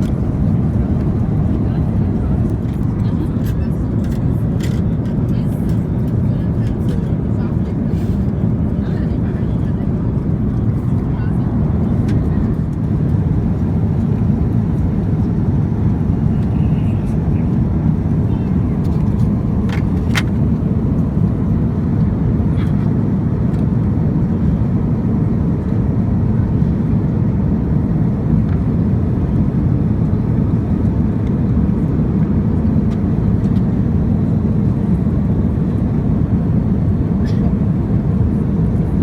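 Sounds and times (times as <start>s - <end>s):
airplane cabin rumble: 0.0s - 39.0s.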